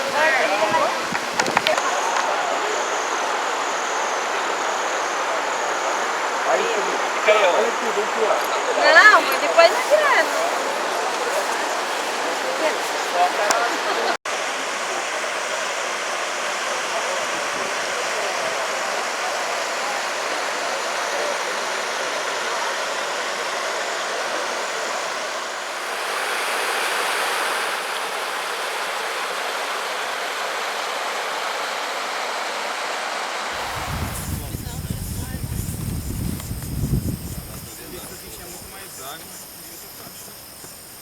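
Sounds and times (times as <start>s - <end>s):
rushing water: 0.0s - 36.5s.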